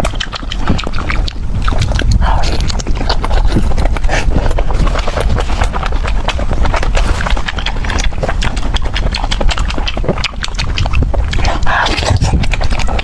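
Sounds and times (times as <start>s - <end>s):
chewing with wet crunching: 0.0s - 13.0s.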